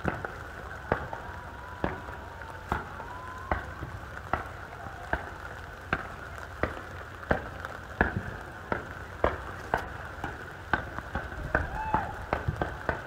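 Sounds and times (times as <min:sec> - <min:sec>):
fireworks reports: 0:00.0 - 0:13.0.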